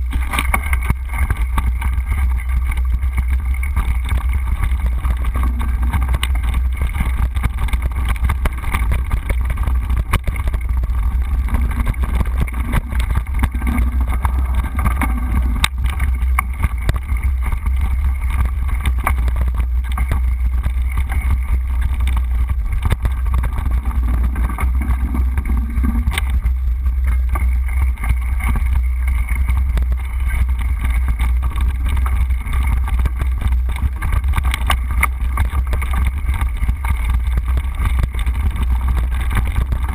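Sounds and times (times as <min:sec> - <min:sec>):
bike rolling over dirt trail: 0:00.0 - 0:39.9
wind rumbling on microphone: 0:00.0 - 0:39.9.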